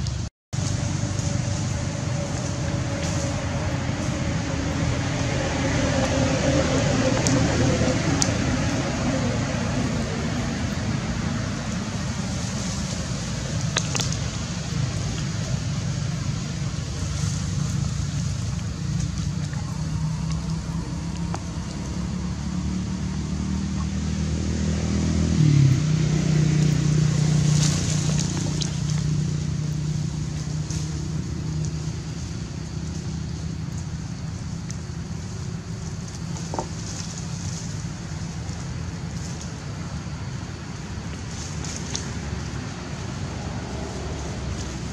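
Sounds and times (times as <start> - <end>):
low engine hum: 0.0 - 44.9.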